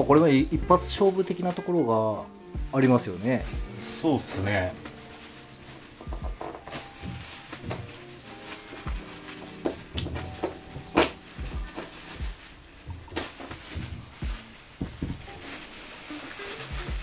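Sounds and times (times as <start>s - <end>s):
plastic sheet crinkling: 0.0s - 17.0s.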